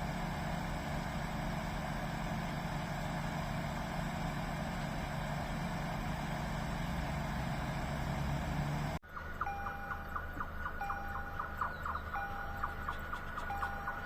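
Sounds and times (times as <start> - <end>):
train diesel engine drone: 0.0 - 14.0.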